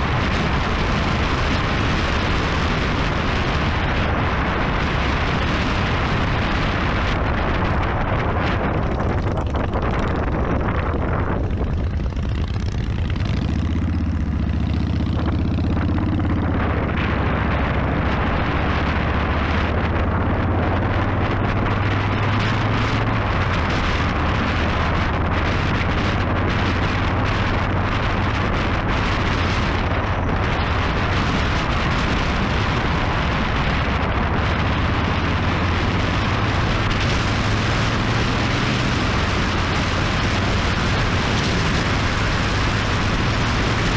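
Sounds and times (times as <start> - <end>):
motorcycle engine running: 0.0 - 43.9
wind on microphone: 0.0 - 43.9.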